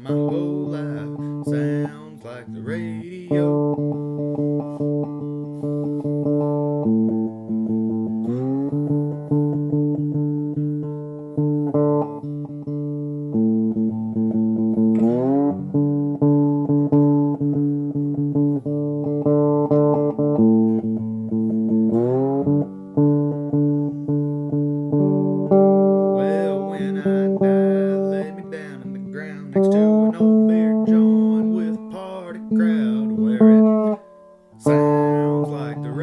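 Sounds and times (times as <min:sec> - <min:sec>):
country band music: 0:00.0 - 0:36.0
lap steel guitar: 0:00.0 - 0:36.0.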